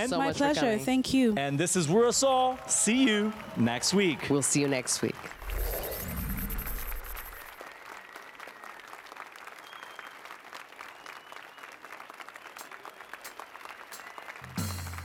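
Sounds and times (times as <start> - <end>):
audience applauding: 2.0 - 15.0.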